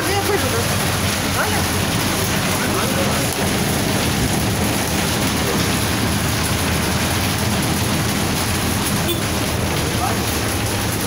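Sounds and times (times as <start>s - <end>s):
bus engine hum: 0.0s - 11.0s
hail and rain on bus roof: 0.0s - 11.0s.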